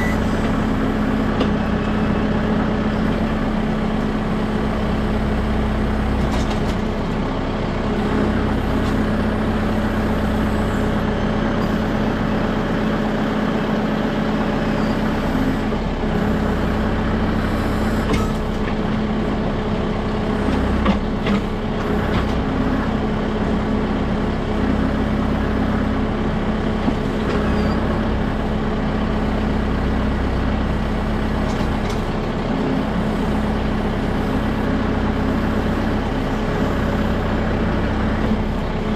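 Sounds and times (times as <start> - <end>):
backhoe digging: 0.0 - 38.9
tractor diesel engine running: 0.0 - 38.9.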